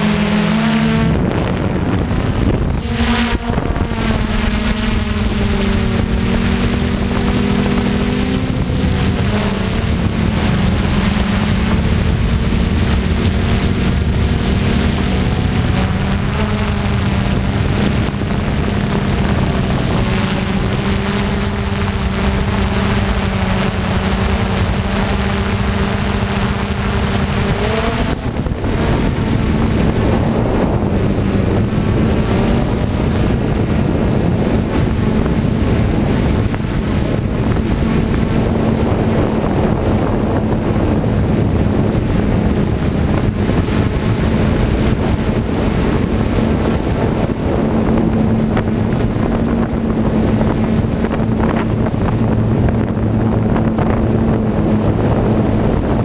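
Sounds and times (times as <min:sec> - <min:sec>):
drone motors humming: 0:00.0 - 0:56.0
wind buffeting microphone: 0:00.0 - 0:56.0.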